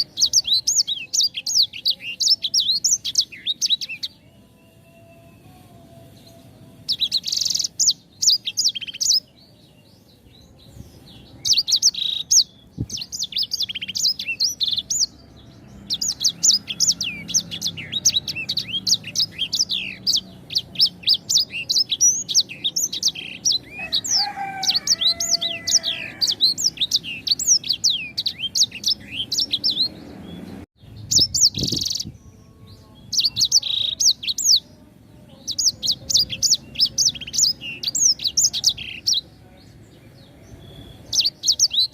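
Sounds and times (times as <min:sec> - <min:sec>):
songbird singing falling chirps: 0:00.0 - 0:41.9.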